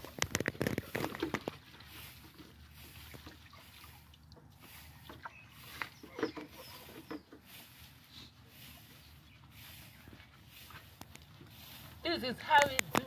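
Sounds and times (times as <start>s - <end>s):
water sloshing and trickling: 0.0s - 13.0s.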